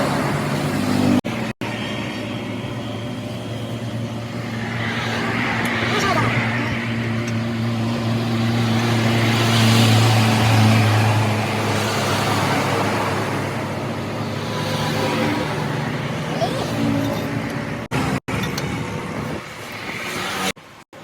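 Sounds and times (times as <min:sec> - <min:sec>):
road traffic noise: 0:00.0 - 0:21.0
vehicle engine humming: 0:00.0 - 0:21.0.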